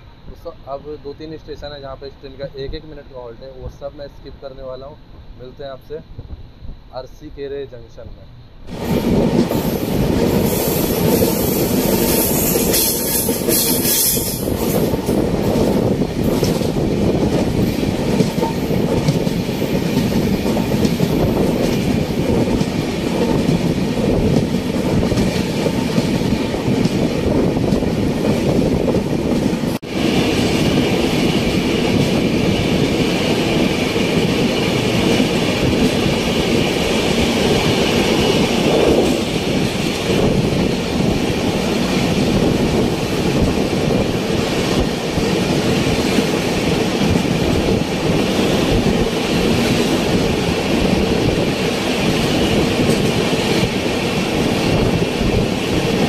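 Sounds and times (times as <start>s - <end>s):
train wheels rumbling on rails: 8.6s - 56.0s.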